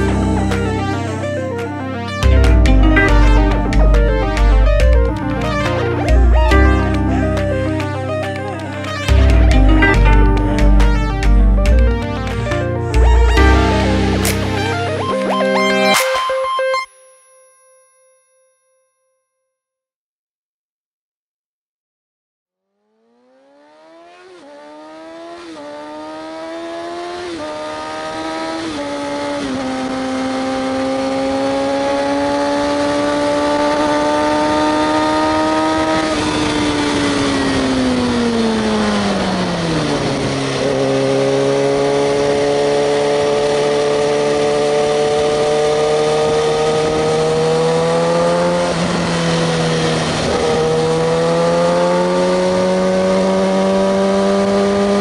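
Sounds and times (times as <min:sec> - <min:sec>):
motorcycle engine accelerating: 0:00.0 - 0:16.0, 0:22.8 - 0:55.0.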